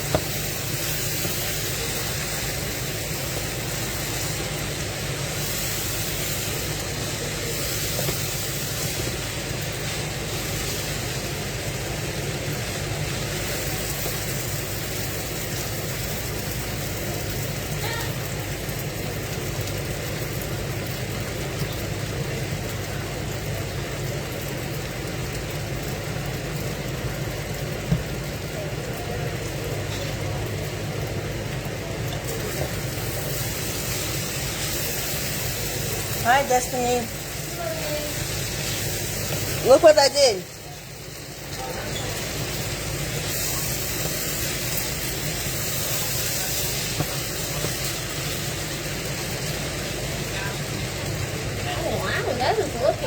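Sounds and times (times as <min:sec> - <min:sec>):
food hissing on stove: 0:00.0 - 0:53.0.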